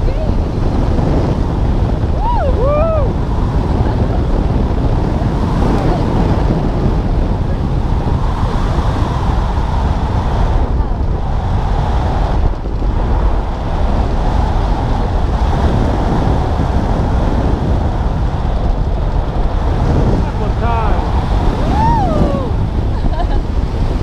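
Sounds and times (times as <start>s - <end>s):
wind roaring over microphone: 0.0s - 24.0s.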